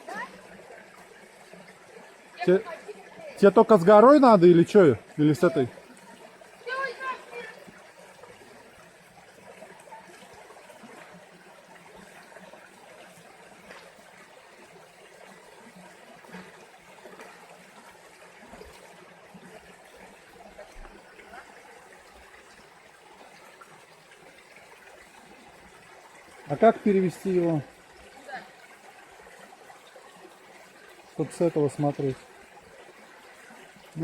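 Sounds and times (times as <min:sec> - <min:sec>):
water trickling and gurgling: 0:00.0 - 0:34.0.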